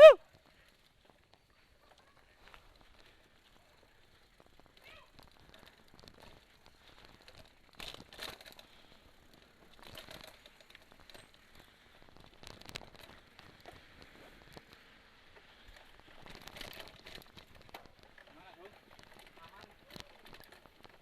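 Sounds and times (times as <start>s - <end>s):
bike tyres crunching on leaves: 0.0s - 21.0s
bike clicks and rattles: 0.2s - 21.0s.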